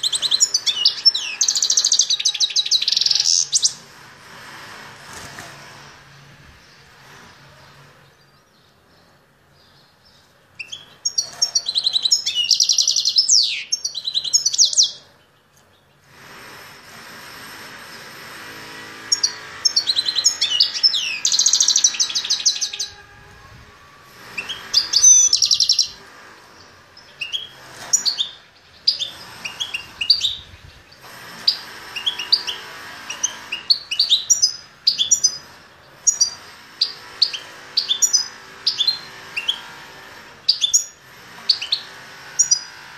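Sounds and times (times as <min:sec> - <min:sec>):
finch singing: 0:00.0 - 0:03.9, 0:06.6 - 0:16.2, 0:19.1 - 0:23.3, 0:24.1 - 0:39.8, 0:40.4 - 0:42.8.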